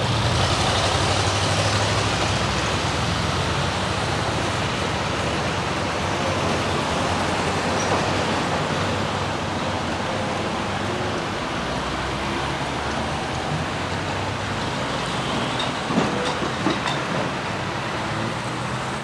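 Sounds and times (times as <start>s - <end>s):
freight train rumbling on rails: 0.0s - 19.0s.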